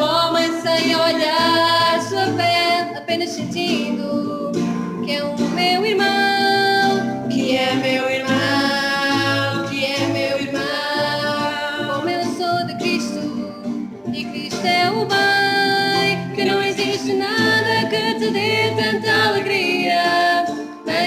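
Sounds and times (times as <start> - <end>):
instrumental accompaniment: 0.0 - 21.0
voices singing a hymn: 0.0 - 21.0.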